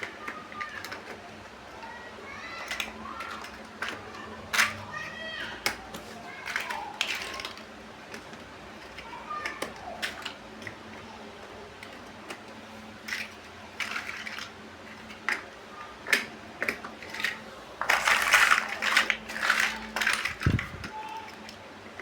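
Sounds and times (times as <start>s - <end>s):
plastic toy bricks clicking: 0.0s - 11.1s, 11.7s - 22.0s.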